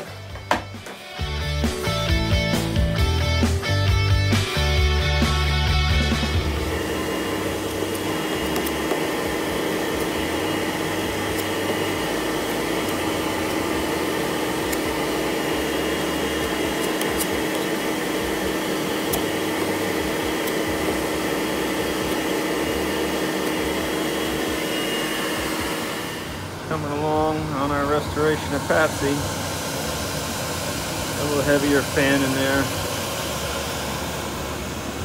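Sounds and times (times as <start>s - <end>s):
electric fan whirring: 0.0s - 35.0s.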